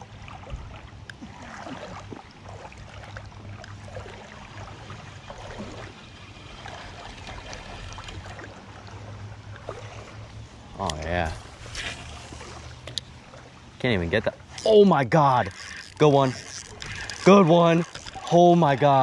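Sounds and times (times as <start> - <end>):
creek water trickling and gurgling: 0.0 - 19.0.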